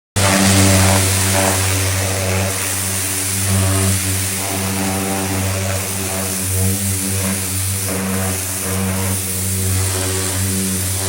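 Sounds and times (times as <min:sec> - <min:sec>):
pressure washer humming: 0:00.2 - 0:11.0
water jet spraying a car: 0:00.2 - 0:11.0.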